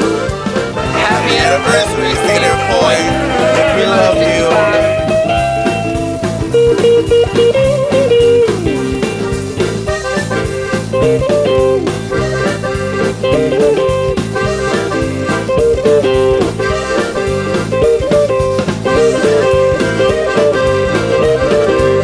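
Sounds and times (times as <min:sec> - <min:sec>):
zydeco song with guitar: 0:00.0 - 0:22.0.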